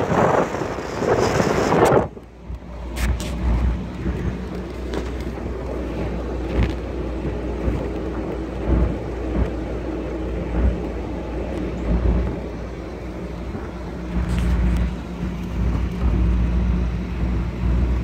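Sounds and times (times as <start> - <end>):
car engine and road noise: 0.0 - 18.0
wind buffeting microphone: 0.0 - 18.0.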